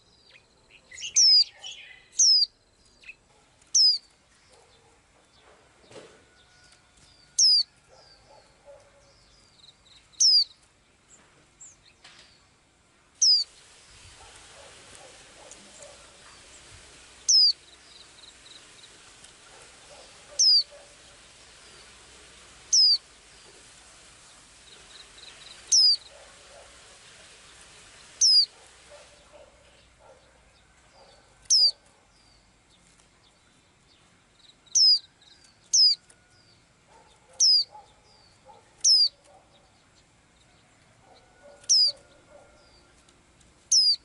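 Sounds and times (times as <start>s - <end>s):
soft bird chirps: 0.0s - 12.6s, 13.2s - 22.0s, 22.7s - 23.6s, 24.3s - 26.7s, 27.3s - 43.0s, 43.7s - 44.0s
faint steady hiss: 0.0s - 44.0s.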